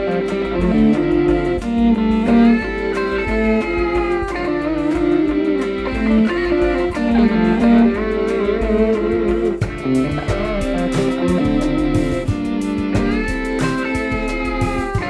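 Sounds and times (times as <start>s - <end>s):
electric guitar melody: 0.0s - 15.0s
steady drum beat: 0.0s - 15.0s.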